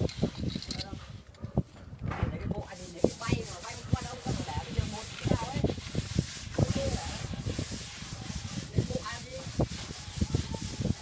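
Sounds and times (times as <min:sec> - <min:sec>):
tools scraping on cement: 0:00.0 - 0:11.0.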